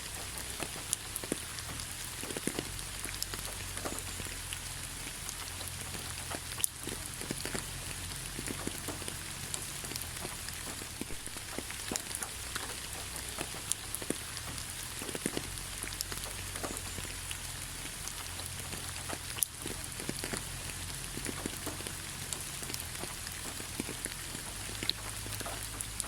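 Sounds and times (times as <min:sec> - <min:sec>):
raindrops ticking: 0:00.0 - 0:26.0
steady rain falling: 0:00.0 - 0:26.0.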